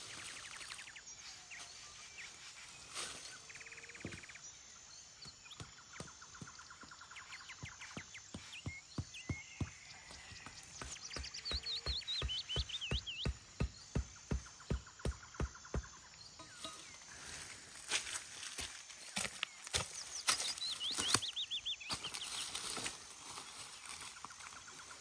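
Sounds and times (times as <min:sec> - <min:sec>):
small birds chirping and trilling: 0:00.0 - 0:25.0.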